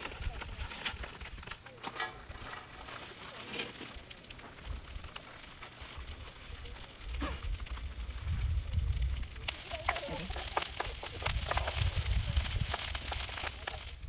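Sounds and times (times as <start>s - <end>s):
plastic pouches crinkling: 2.6s - 14.0s.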